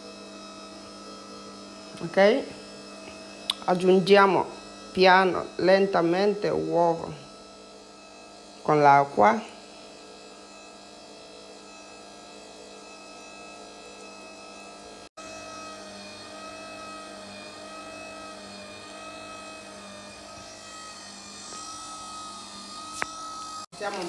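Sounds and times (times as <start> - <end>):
pasta maker motor humming: 0.0 - 24.0.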